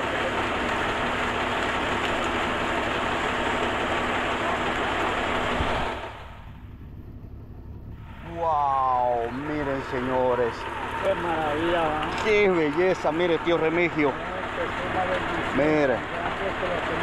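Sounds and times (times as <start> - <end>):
water rushing and gushing: 0.0 - 6.6, 8.1 - 17.0
engine hum: 0.0 - 17.0.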